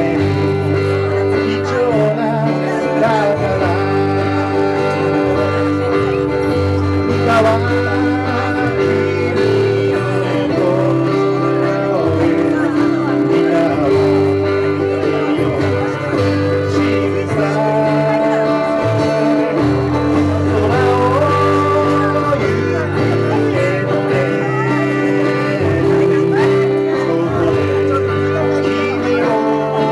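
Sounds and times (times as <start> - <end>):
acoustic guitars strummed: 0.0 - 29.9
man singing: 0.0 - 29.9.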